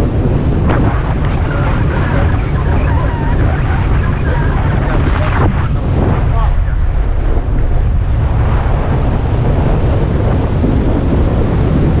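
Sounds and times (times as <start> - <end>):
low rumble: 0.0 - 12.0
water rushing: 0.0 - 12.0
wind buffeting microphone: 0.0 - 12.0.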